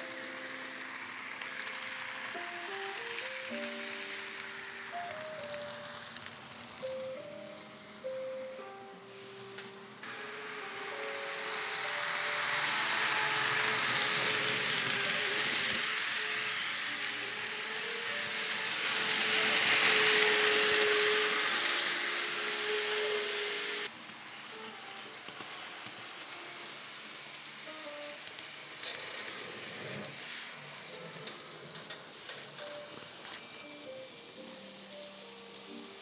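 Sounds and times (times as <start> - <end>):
model train wheels hissing on rail: 0.0 - 36.0.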